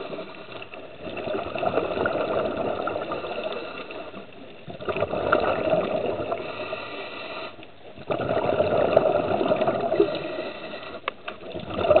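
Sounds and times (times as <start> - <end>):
underwater exhaled breath bubbling: 0.0 - 12.0.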